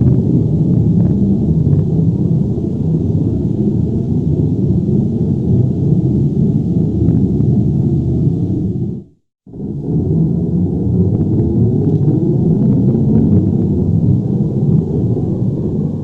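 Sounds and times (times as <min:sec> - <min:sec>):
deep steady rumble: 0:00.0 - 0:16.0.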